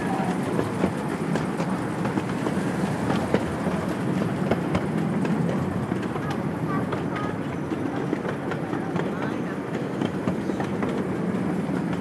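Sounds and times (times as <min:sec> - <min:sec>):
miniature train rumbling: 0:00.0 - 0:12.0
wheels clacking on track: 0:00.0 - 0:12.0.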